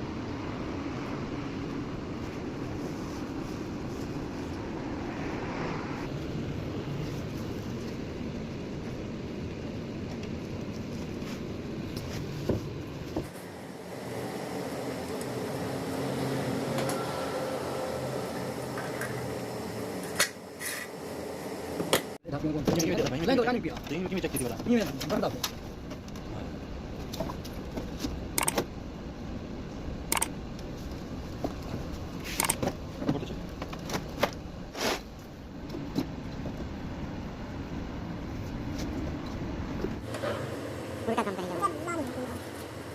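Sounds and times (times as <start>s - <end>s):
window air conditioner humming: 6.1s - 42.9s.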